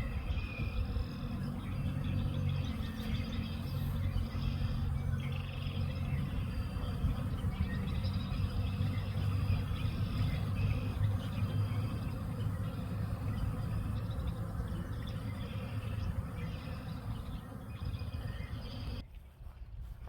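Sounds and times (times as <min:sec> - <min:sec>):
low steady rumble: 0:00.0 - 0:19.0
songbirds chirping: 0:00.0 - 0:19.5.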